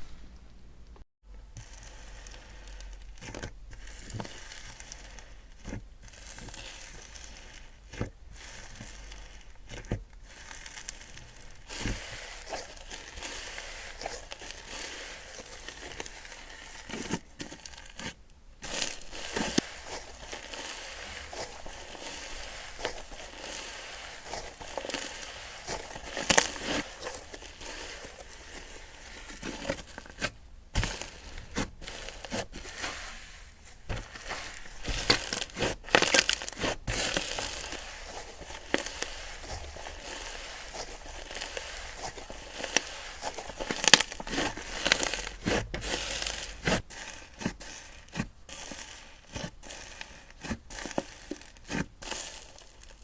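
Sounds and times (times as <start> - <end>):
slime crackling and popping: 1.6 - 53.0.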